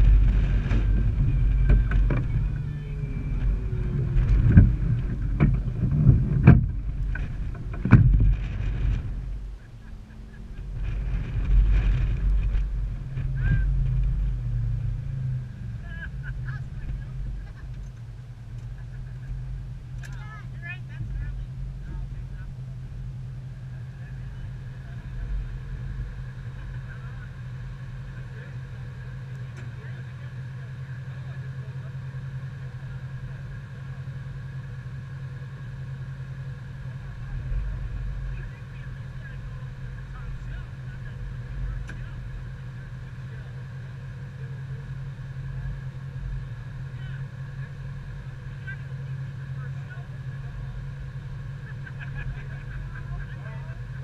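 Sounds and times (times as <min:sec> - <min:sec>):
engine running low rumble: 0:00.0 - 0:54.0.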